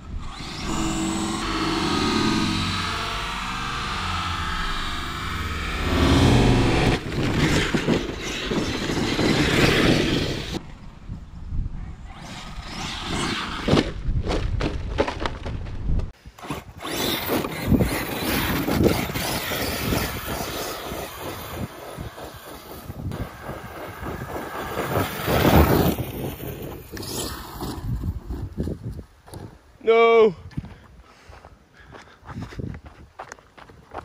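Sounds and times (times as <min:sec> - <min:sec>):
rc truck driving over dirt: 0:00.0 - 0:11.3, 0:11.9 - 0:29.7
tyres and chassis scraping: 0:00.1 - 0:10.7, 0:12.1 - 0:28.8.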